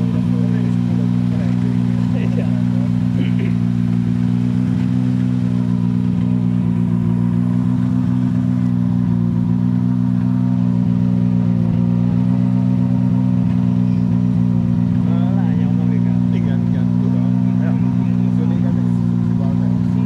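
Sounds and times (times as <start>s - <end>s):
rally car engine idling: 0.0s - 20.0s.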